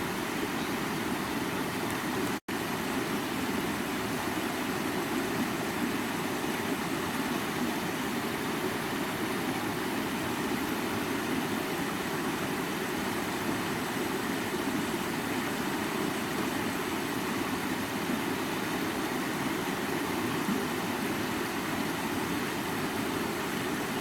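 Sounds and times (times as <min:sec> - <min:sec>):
creek water running over rocks: 0:00.0 - 0:24.0.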